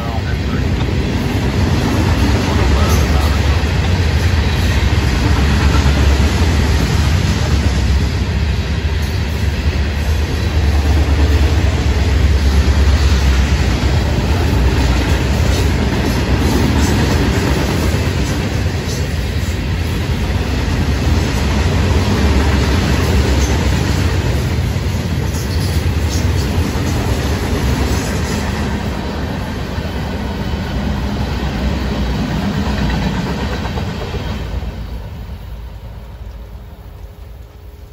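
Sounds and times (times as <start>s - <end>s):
freight train rolling past: 0.0s - 37.9s.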